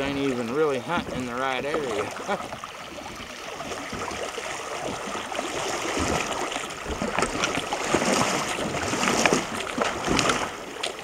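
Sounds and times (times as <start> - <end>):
kayak paddle splashes: 0.0 - 11.0
water rushing over gravel: 0.0 - 11.0.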